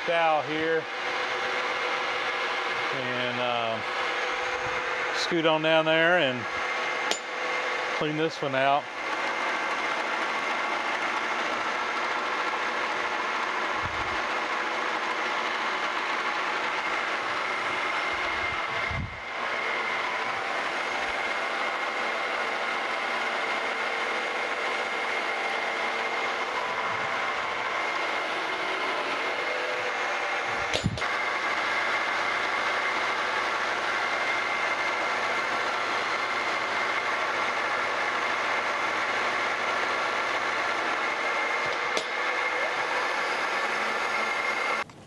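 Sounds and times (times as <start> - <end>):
milling machine cutting metal: 0.0 - 44.9.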